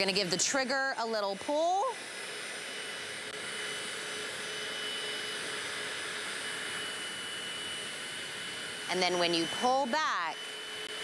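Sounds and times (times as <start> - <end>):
floor cleaner whirring: 0.0 - 11.0.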